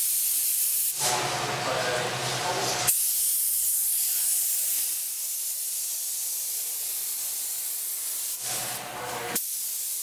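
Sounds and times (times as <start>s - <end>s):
paint spray gun hissing: 0.0s - 1.0s, 2.9s - 10.0s.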